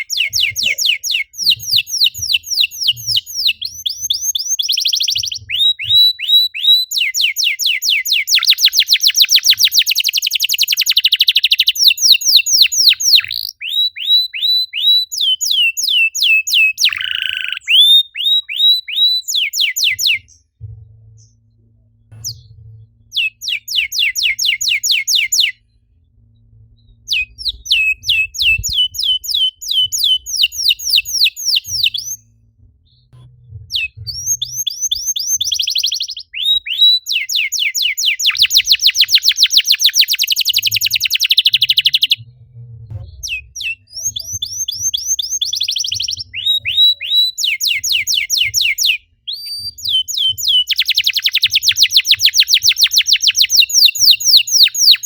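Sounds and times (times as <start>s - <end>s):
canary singing trills: 0.0s - 20.5s, 22.1s - 25.8s, 26.7s - 32.3s, 33.0s - 42.3s, 43.0s - 55.0s.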